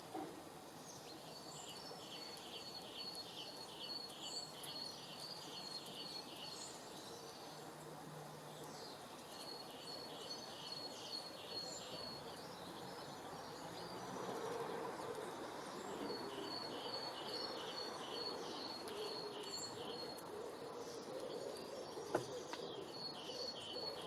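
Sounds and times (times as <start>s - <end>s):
background hiss of nature ambience: 0.0s - 24.0s.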